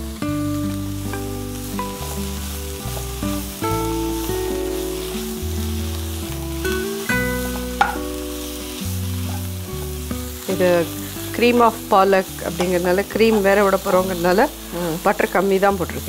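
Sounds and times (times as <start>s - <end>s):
background music of held chords: 0.0s - 16.0s
vegetables sizzling in a pan: 0.0s - 16.0s.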